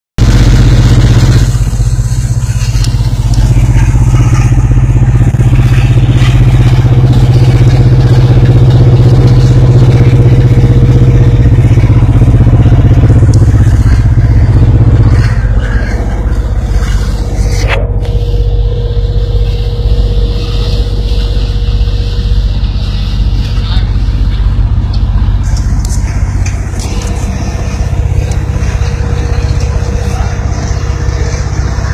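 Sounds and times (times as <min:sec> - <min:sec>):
diesel locomotive engine drone: 0:00.2 - 0:31.9.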